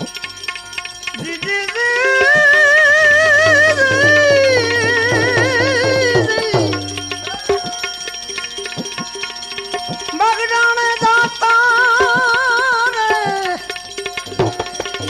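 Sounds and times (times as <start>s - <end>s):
tabla playing: 0.0s - 15.0s
wavering held melody: 0.0s - 15.0s.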